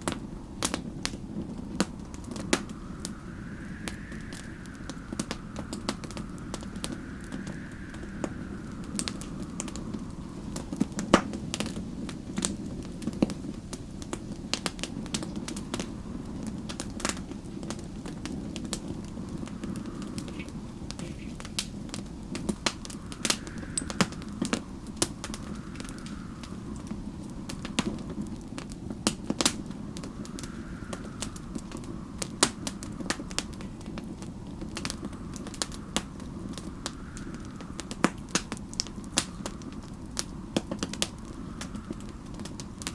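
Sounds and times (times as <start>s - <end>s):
faint wind whistling: 0.0s - 42.9s
wood fire crackling: 0.0s - 42.9s.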